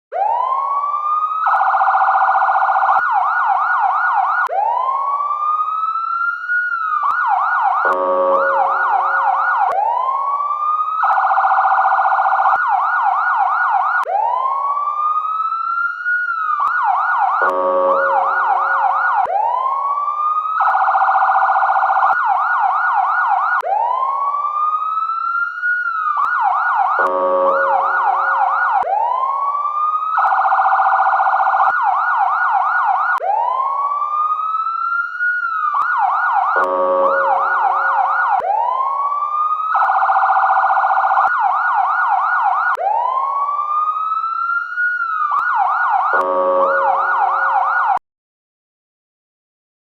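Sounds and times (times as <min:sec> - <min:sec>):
police siren: 0:00.1 - 0:48.0.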